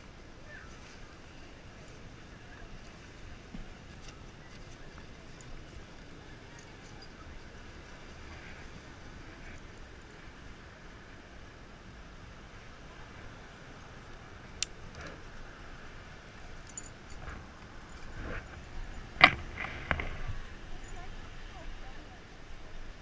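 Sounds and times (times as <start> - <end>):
wind and surf hiss: 0.0 - 23.0.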